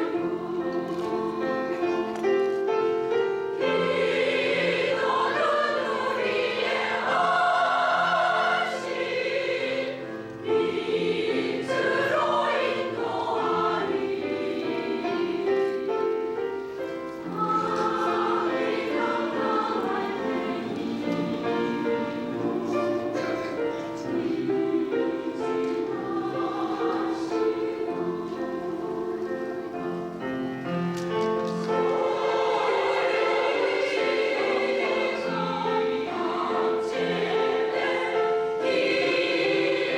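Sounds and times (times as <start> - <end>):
piano accompaniment: 0.0 - 39.9
women's choir singing: 0.0 - 39.9.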